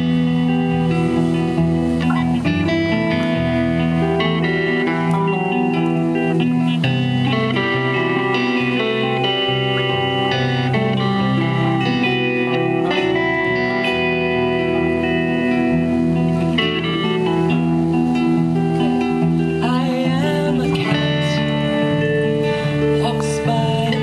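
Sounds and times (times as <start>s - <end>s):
electric bass line: 0.0s - 24.0s
electric guitars playing: 0.0s - 24.0s.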